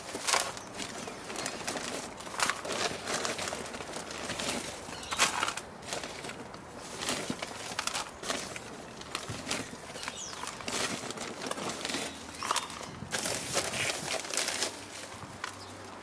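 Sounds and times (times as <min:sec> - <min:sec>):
soil dropping crumbly rustling: 0:00.0 - 0:15.8.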